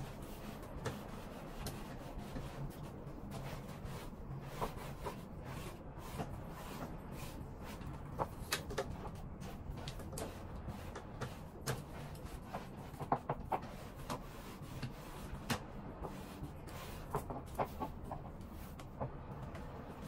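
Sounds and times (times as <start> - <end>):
fabric rubbing and rustling: 0.0 - 20.0
steady low hum: 0.0 - 20.0.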